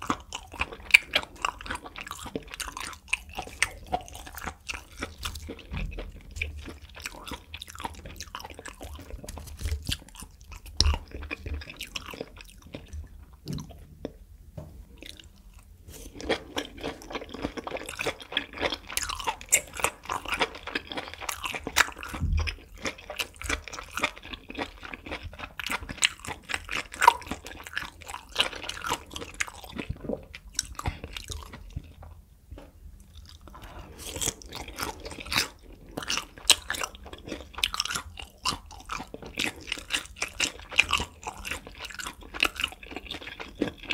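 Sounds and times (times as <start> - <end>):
chewing with mouth clicks: 0.0 - 14.2, 15.0 - 32.2, 33.0 - 43.9.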